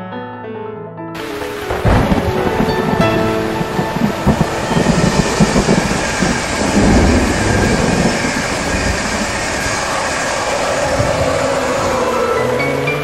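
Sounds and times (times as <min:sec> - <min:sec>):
electric train passing at speed: 0:01.2 - 0:13.0.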